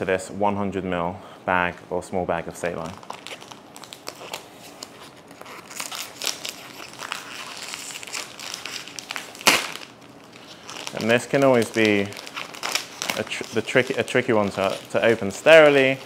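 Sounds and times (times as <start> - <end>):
plastic wrapping crinkling: 2.6 - 16.0.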